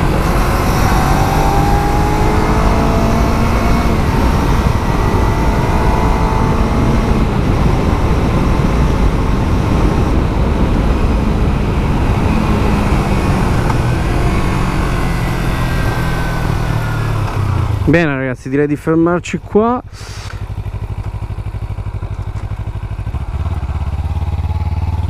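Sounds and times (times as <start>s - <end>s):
motorcycle engine: 0.0s - 25.0s
wind and road noise: 0.0s - 25.0s.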